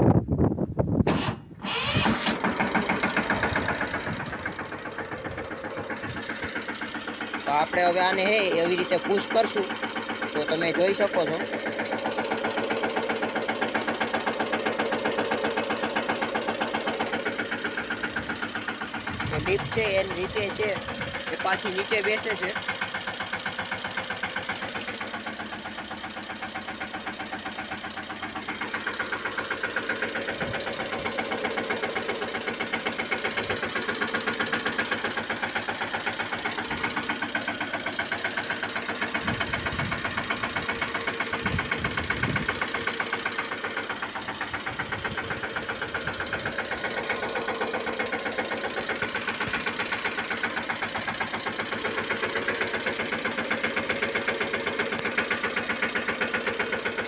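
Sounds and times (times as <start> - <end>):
tractor diesel engine idling: 1.1 - 57.0.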